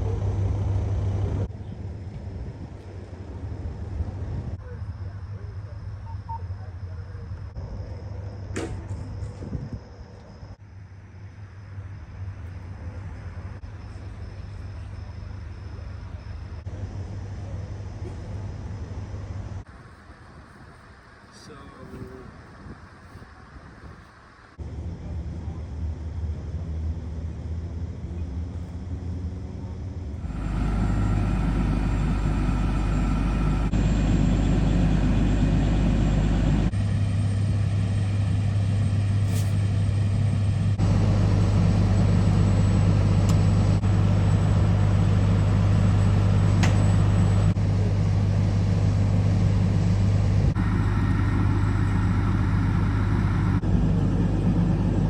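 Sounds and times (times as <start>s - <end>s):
low mechanical hum: 0.0s - 21.2s, 24.6s - 55.0s.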